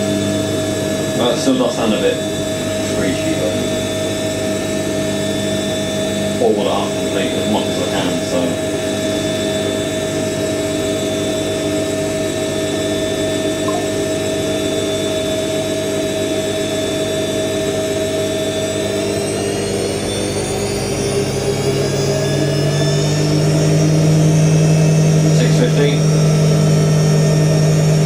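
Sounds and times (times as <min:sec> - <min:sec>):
washing machine spinning: 0:00.0 - 0:28.0.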